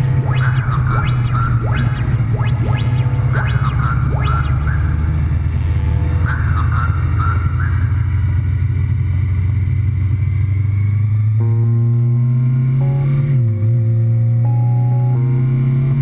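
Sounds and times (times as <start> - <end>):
motorcycle engine droning: 0.0 - 14.4.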